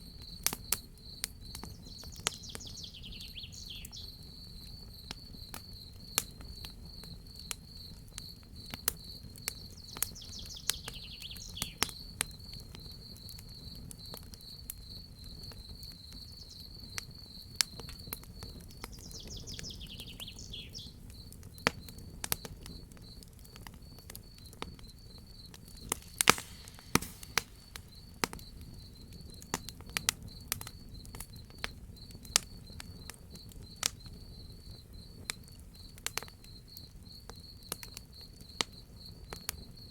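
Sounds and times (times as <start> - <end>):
crickets chirping: 0.0 - 39.9
fire crackling and popping: 0.0 - 39.9.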